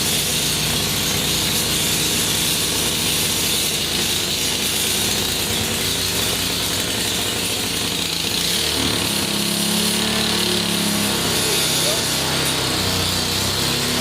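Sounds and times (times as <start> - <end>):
snowblower engine running: 0.0 - 14.0.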